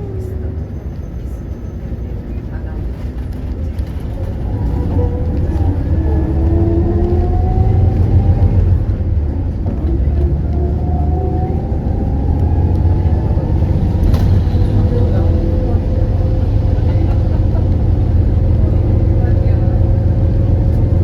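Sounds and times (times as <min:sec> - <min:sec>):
bus engine rumbling: 0:00.0 - 0:21.0.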